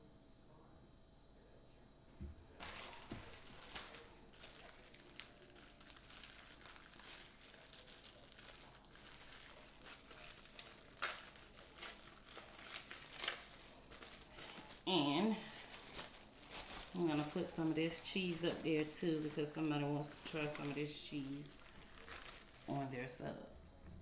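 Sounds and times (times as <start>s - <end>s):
food packaging crinkling: 2.5s - 23.4s.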